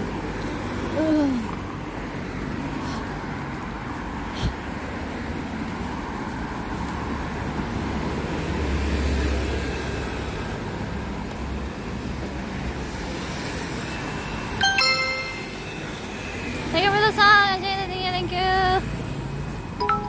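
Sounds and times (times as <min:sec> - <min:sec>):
rumble of passing cars: 0:00.0 - 0:20.0.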